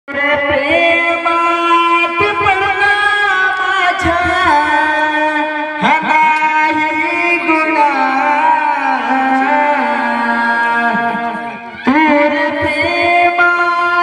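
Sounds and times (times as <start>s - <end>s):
person singing long held notes: 0.1s - 14.0s.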